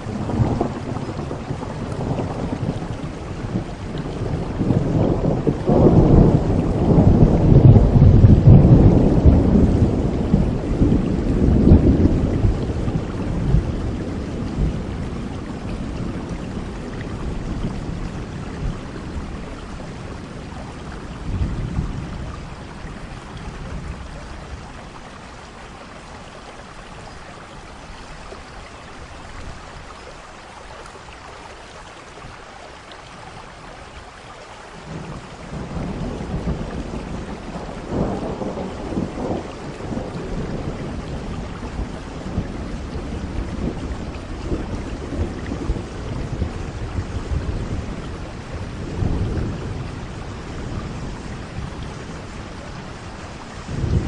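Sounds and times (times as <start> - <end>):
thunder rumbling: 0.0 - 25.6, 34.8 - 54.0
steady rainfall: 0.0 - 54.0.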